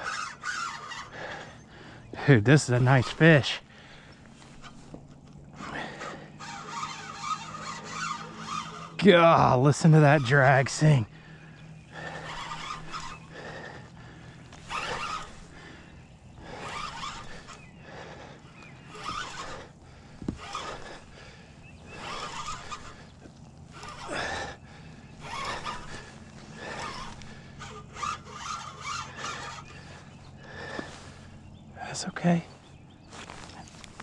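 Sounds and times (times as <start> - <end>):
fishing reel drag buzzing: 0.0 - 31.5.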